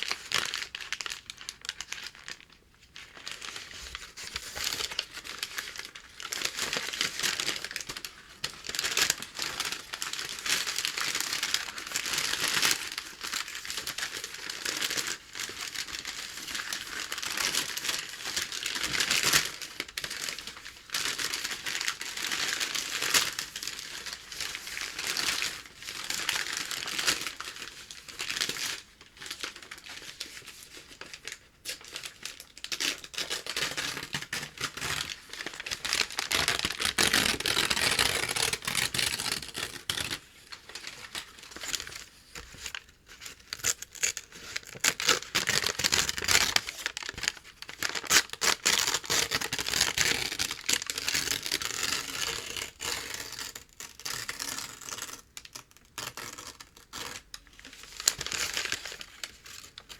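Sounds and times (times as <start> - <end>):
packing paper crinkling: 0.0 - 59.9.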